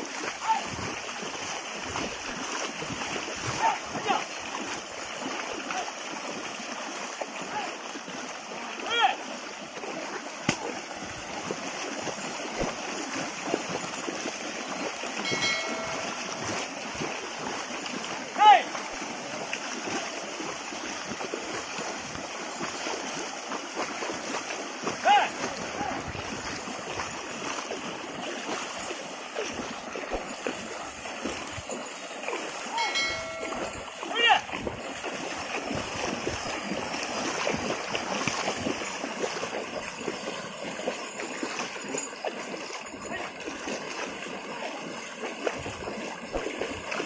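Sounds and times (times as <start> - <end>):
hooves splashing in water: 0.0 - 47.0
stream flowing: 0.0 - 47.0.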